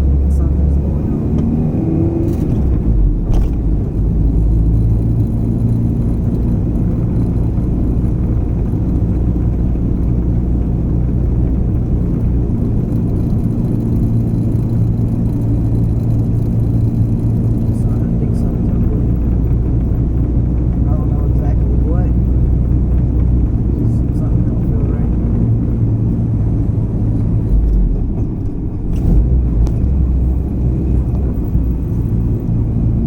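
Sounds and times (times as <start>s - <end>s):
car engine drone while driving: 0.0s - 33.0s.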